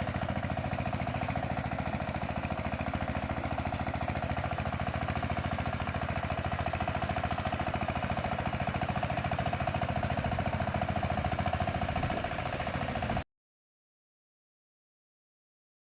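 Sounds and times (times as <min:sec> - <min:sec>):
tiller engine chugging: 0:00.0 - 0:13.2.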